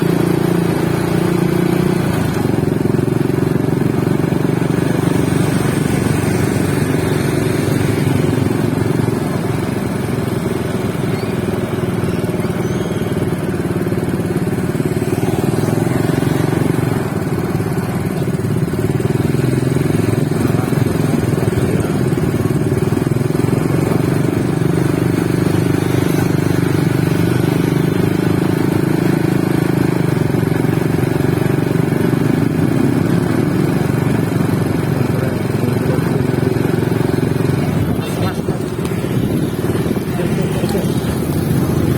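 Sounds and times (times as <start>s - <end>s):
motorcycle traffic engine hum: 0.0s - 41.9s.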